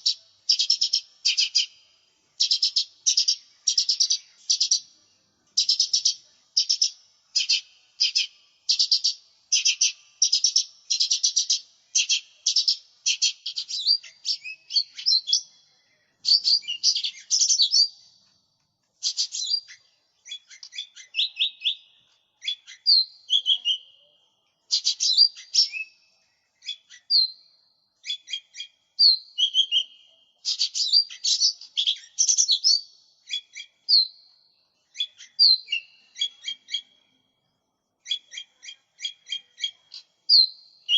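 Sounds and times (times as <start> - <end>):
bird singing trills and whistles: 0.0 - 1.8, 2.4 - 5.0, 5.6 - 18.2, 19.0 - 37.2, 38.0 - 40.9.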